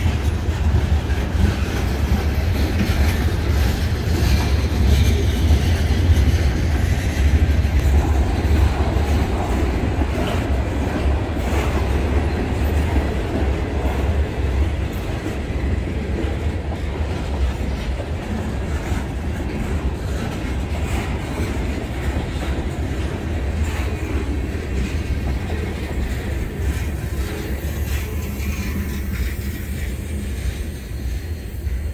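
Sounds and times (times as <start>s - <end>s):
wheels clacking over rail joints: 0.0s - 31.8s
freight train rumbling past: 0.0s - 31.9s.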